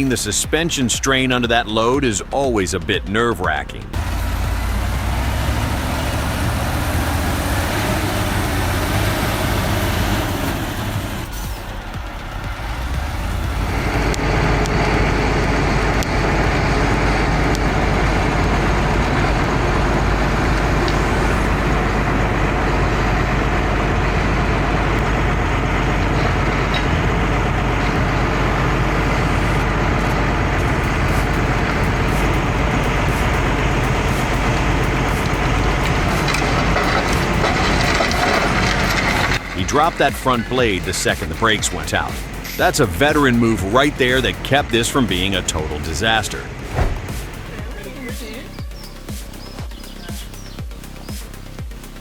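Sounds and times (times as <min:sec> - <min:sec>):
heavy diesel engine under load: 0:03.7 - 0:52.0.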